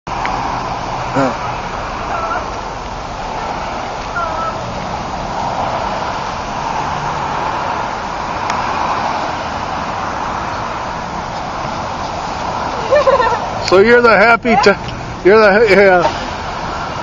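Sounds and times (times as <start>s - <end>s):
passing road traffic: 0.1s - 17.0s.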